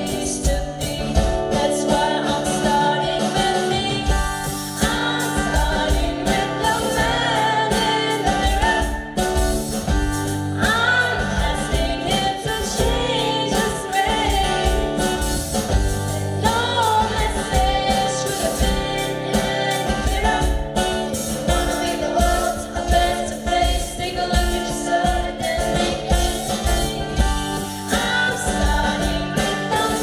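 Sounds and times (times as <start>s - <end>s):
girl singing into a microphone: 0.0s - 9.2s, 10.6s - 15.2s, 16.1s - 30.0s
group singing: 0.0s - 30.0s
instrumental music with steady beat: 0.0s - 30.0s.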